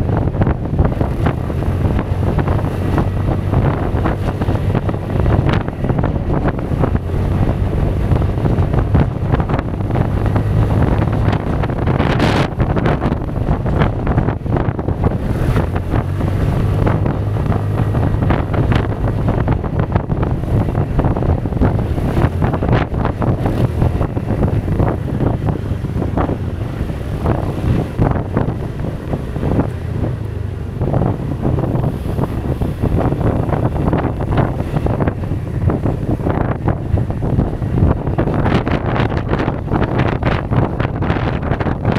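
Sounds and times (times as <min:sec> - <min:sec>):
scooter engine droning: 0:00.0 - 0:41.9
wind buffeting microphone: 0:00.0 - 0:41.9.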